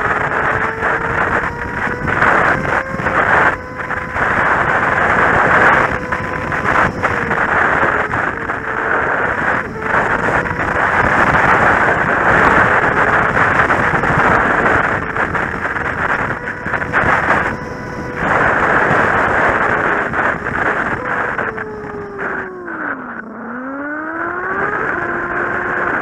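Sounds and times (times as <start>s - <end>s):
motorcycle engine hum: 0.0s - 26.0s
wind noise on microphone: 0.0s - 26.0s.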